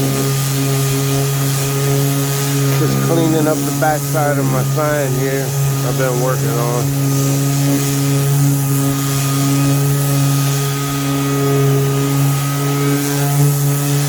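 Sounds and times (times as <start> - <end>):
sander motor hum: 0.0 - 14.0
sandpaper hissing: 0.0 - 14.0.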